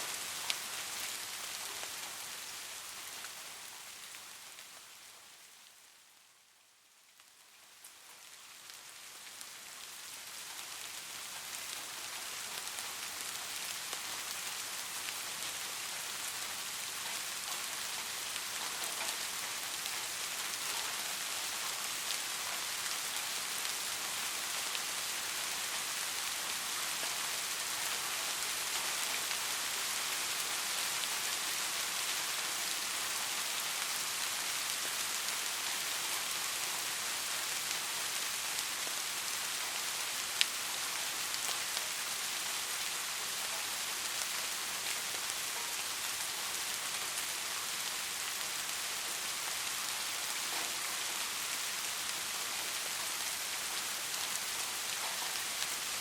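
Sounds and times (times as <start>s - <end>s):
rain falling on a street: 0.0s - 56.0s
faint raindrop ticks: 0.1s - 5.8s, 7.0s - 56.0s.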